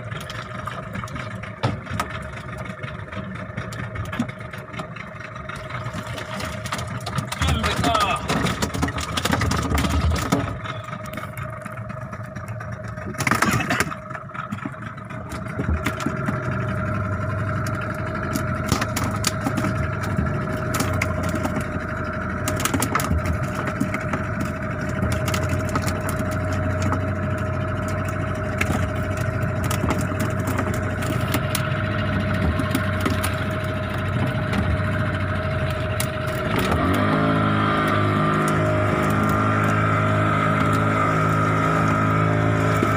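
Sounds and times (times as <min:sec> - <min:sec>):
boat engine humming: 0:00.0 - 0:42.9.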